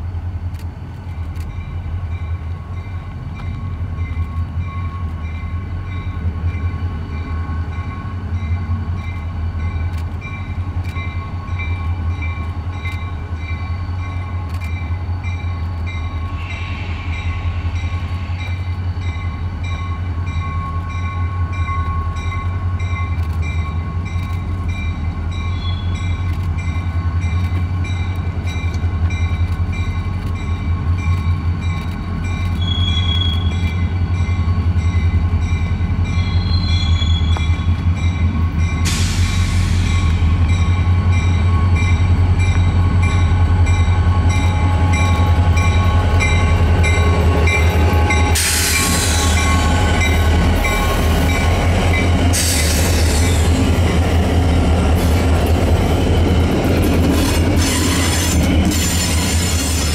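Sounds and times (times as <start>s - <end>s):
train rumbling past: 0.0s - 59.9s.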